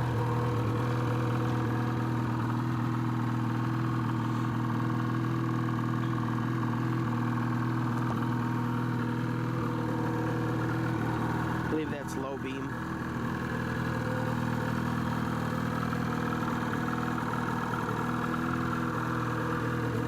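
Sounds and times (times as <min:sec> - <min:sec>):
snowmobile engine idling: 0:00.0 - 0:20.0.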